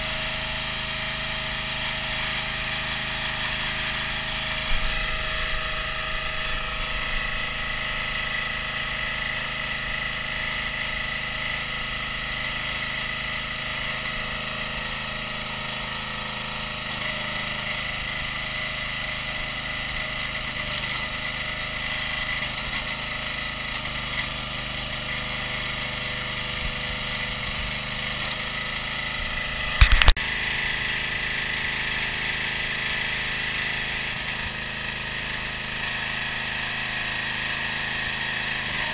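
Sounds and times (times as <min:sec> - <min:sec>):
petrol engine running: 0:00.0 - 0:38.9.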